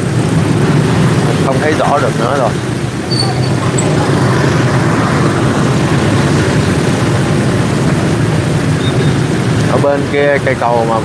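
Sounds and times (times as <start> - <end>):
dense traffic engines rumbling: 0.0 - 11.0.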